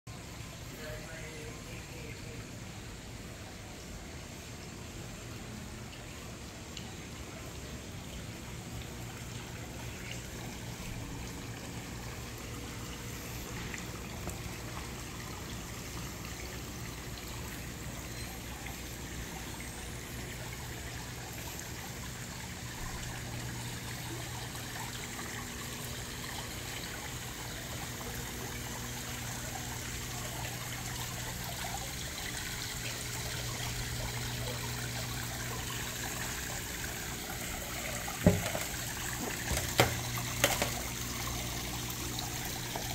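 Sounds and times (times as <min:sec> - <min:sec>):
water trickling into pond: 0:00.1 - 0:42.9.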